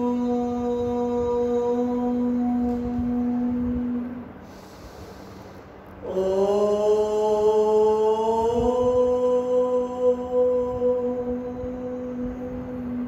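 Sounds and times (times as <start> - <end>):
woman chanting sustained tone: 0.0 - 5.3, 6.0 - 13.0.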